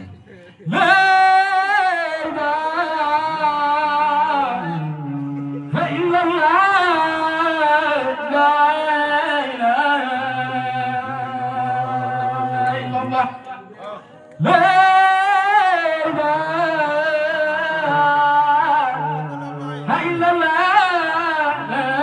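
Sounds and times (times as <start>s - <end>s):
man singing a chant: 0.0s - 22.0s.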